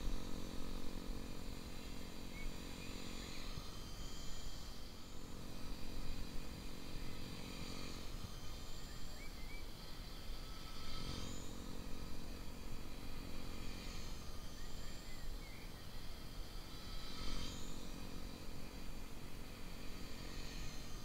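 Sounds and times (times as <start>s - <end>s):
rc helicopter motor whine: 0.0s - 21.0s.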